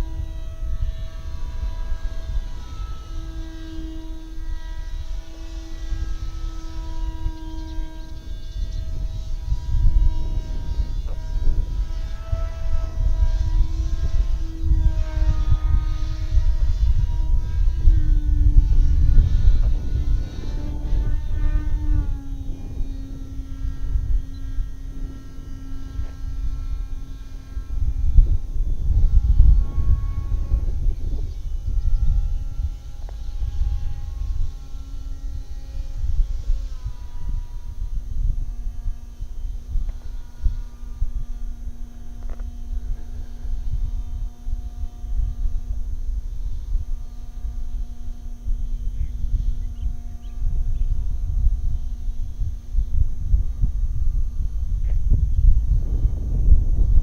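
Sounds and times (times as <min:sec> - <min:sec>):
model motor and propeller whine: 0:00.0 - 0:57.0
wind rumble on microphone: 0:00.0 - 0:57.0.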